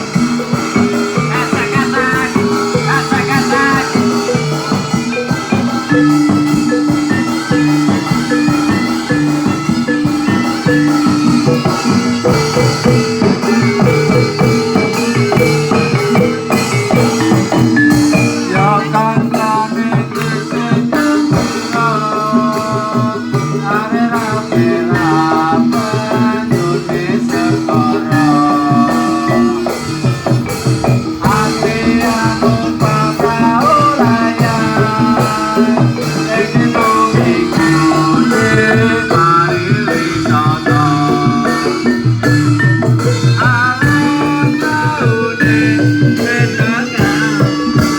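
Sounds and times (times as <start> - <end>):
gliding melody line: 0.0 - 23.2, 24.3 - 47.9
drums: 0.0 - 47.9
metallic gamelan percussion: 0.0 - 47.9.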